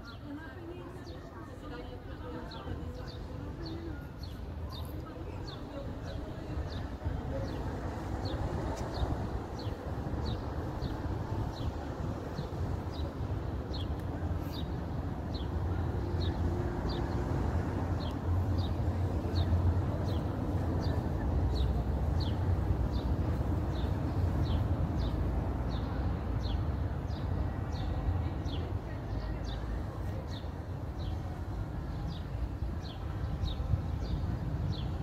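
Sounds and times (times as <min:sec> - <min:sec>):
low rumble of wind or traffic: 0:00.0 - 0:35.0.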